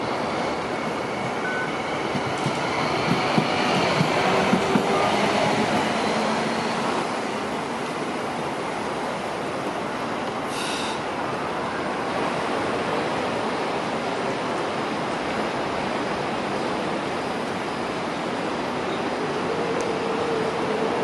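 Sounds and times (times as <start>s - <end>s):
tram rolling along track: 0.0s - 21.0s.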